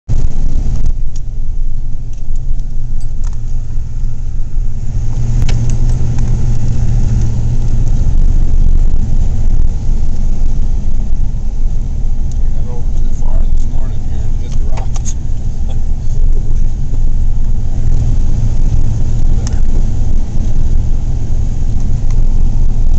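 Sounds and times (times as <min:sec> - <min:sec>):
engine and tyres rumbling: 0:00.0 - 0:22.9.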